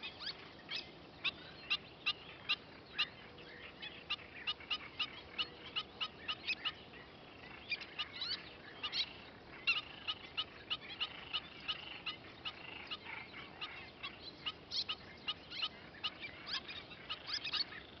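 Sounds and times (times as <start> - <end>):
terns calling: 0.0 - 18.0.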